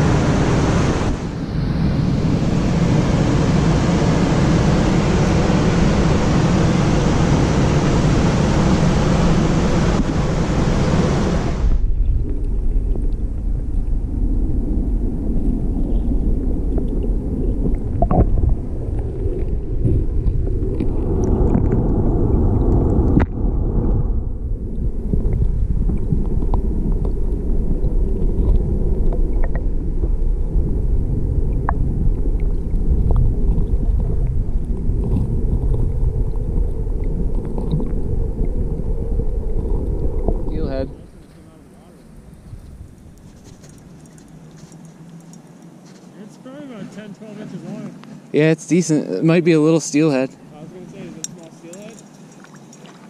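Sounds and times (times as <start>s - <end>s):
wind buffeting microphone: 0.0s - 45.8s
river current rumble: 0.0s - 53.0s.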